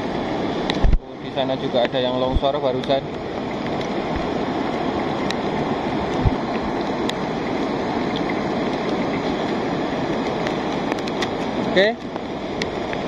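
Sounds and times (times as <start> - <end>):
flood torrent rushing: 0.0 - 13.0.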